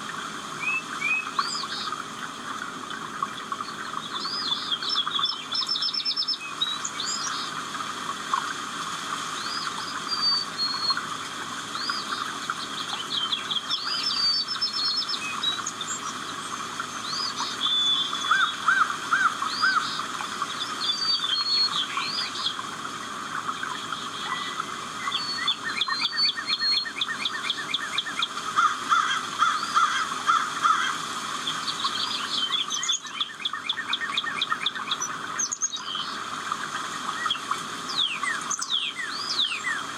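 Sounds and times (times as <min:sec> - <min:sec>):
birds chirping and trilling: 0:00.0 - 0:39.9
soft background birdsong: 0:00.0 - 0:39.9.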